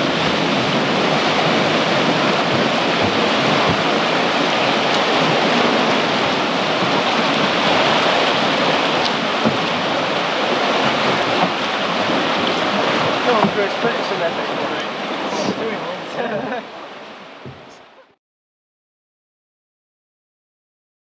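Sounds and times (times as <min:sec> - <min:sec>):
water rushing into lock chamber: 0:00.0 - 0:18.1.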